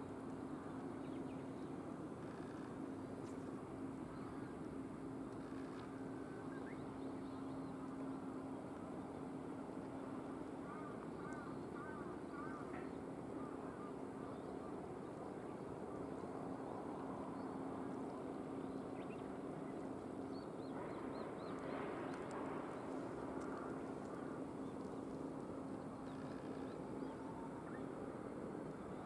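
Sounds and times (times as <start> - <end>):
background noise wash: 0.0 - 29.0.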